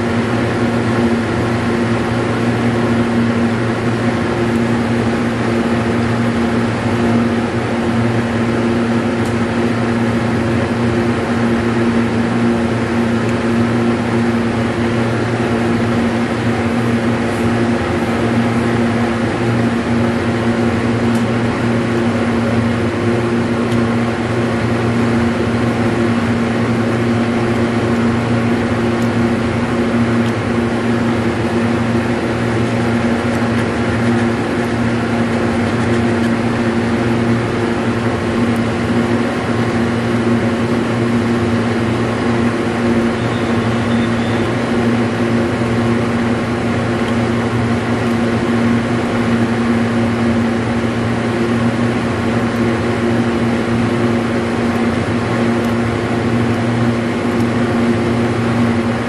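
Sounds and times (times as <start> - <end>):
mechanical hum: 0.0 - 59.0.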